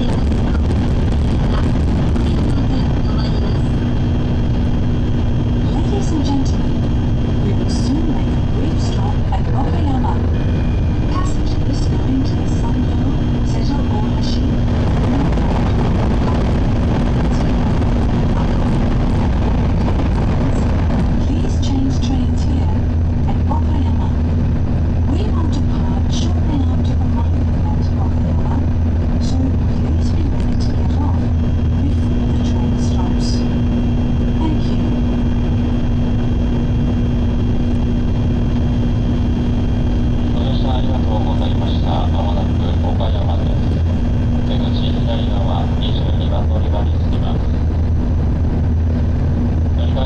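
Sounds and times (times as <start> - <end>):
constant hum: 0.0 - 50.0
train running low rumble: 0.0 - 50.0.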